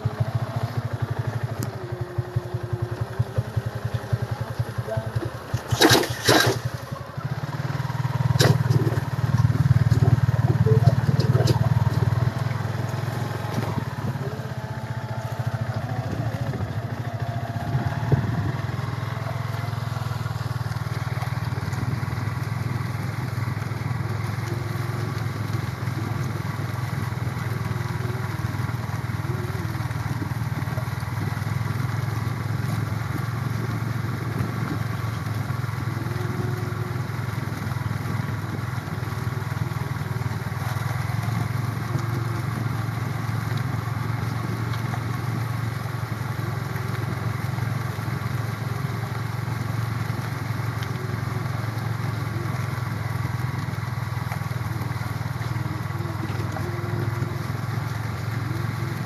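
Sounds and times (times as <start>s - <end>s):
small motorcycle engine running: 0.0s - 59.0s.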